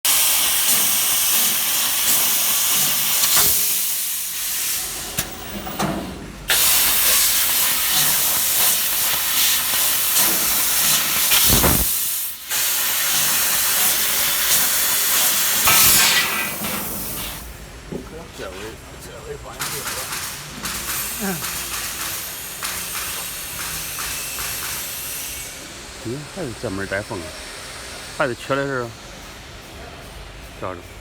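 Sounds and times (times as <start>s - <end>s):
laser cutter gas jet hiss: 0.1s - 5.3s, 6.5s - 17.6s, 19.5s - 31.0s.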